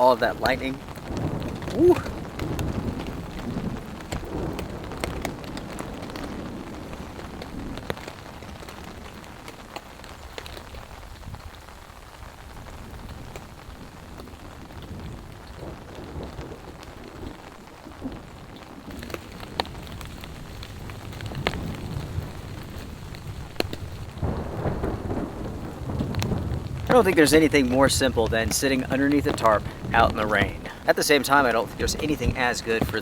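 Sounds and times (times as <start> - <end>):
low thunder rumbling: 0.0 - 33.0
rain on a tarp: 0.0 - 33.0.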